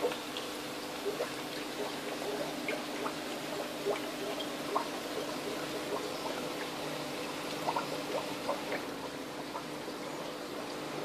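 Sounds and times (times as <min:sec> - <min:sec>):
aquarium air stone bubbling: 0:00.0 - 0:11.0
steady low hum: 0:00.0 - 0:11.0.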